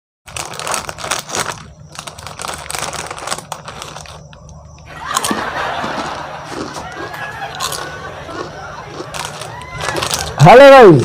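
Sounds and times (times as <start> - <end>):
plastic chip packet crinkling: 0.3 - 11.0.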